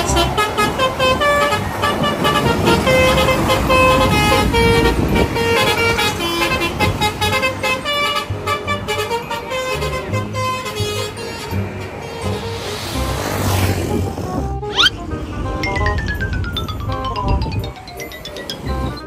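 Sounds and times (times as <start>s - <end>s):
bus horn playing a melody: 0.0s - 15.6s
low engine and traffic rumble: 0.0s - 19.0s.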